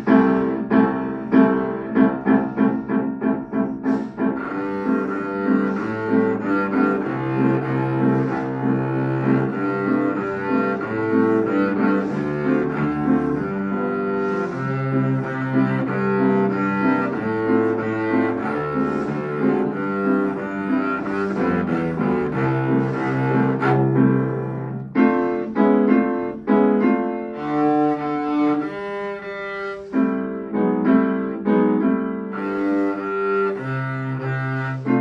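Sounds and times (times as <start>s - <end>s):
cello bowed: 0.0s - 31.6s, 32.2s - 35.0s
grand piano: 0.0s - 35.0s.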